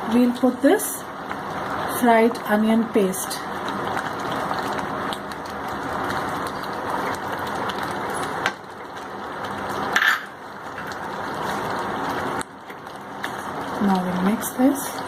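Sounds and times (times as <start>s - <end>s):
gravy sizzling and bubbling in pan: 0.0s - 15.0s.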